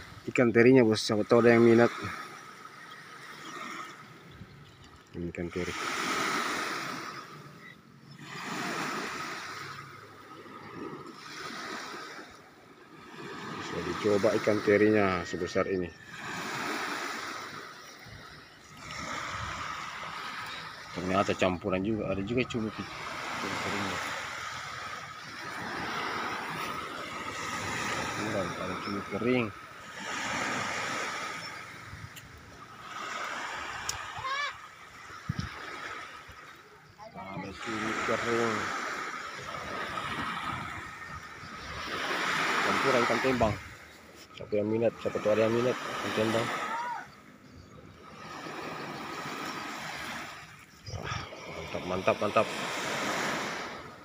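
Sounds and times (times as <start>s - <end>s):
surf washing onto beach: 0.0s - 47.2s, 48.0s - 54.0s.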